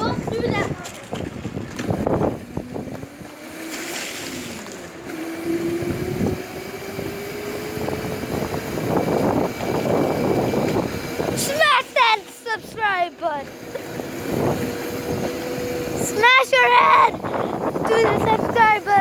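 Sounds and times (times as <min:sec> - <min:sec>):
wind buffeting microphone: 0:00.0 - 0:03.7, 0:05.0 - 0:19.0
electric motor whining: 0:01.6 - 0:19.0.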